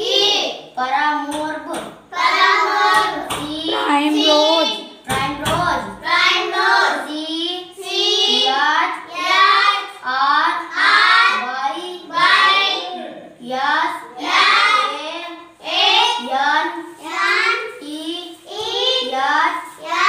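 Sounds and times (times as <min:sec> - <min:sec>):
child chanting: 0:00.0 - 0:20.0.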